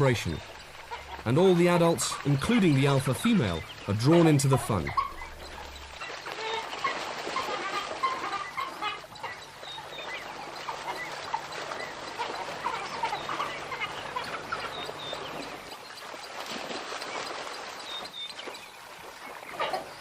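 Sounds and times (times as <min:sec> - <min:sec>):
wild dogs twittering and chirping: 0:00.0 - 0:20.0.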